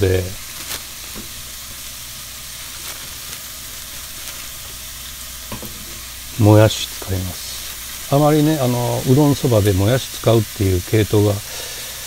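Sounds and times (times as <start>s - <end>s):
pork sizzling in a frying pan: 0.0s - 12.0s.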